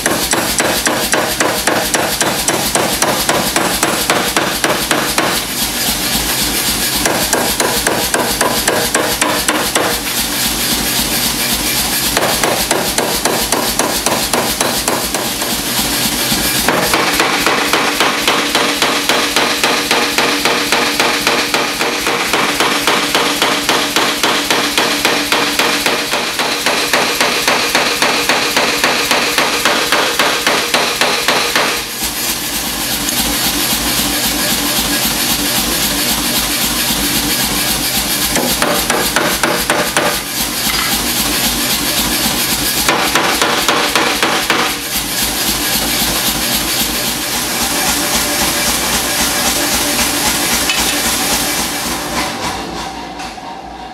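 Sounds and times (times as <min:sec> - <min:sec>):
hammer striking hot metal: 0:00.0 - 0:32.0, 0:37.6 - 0:51.7.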